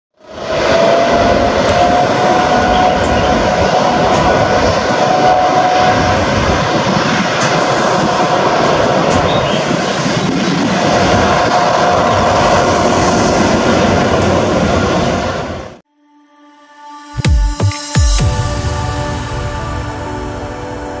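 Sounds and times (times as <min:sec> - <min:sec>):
jet engine roar: 0:00.2 - 0:15.8, 0:18.0 - 0:21.0
thin jet engine whine: 0:00.2 - 0:15.8, 0:17.1 - 0:21.0.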